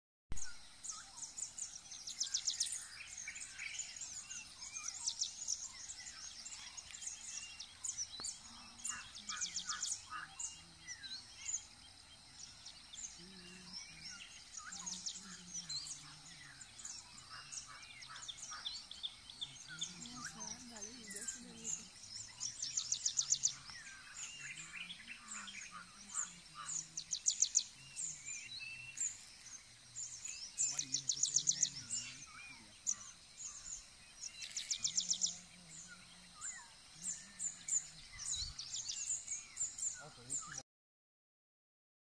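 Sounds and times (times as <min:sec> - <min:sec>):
songbirds singing: 0:00.3 - 0:40.6.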